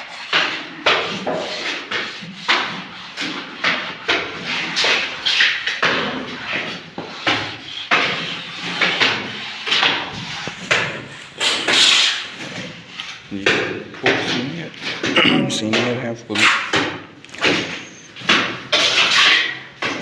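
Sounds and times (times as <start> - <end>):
trowels scraping and slapping mortar: 0.0 - 20.0.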